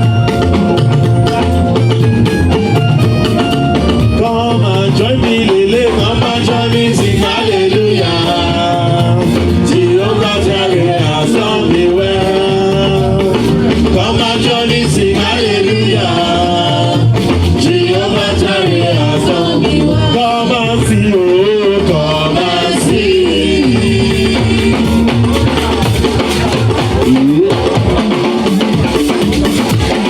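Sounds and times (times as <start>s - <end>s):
band with guitar and drums: 0.0s - 30.0s
person singing: 4.0s - 28.6s.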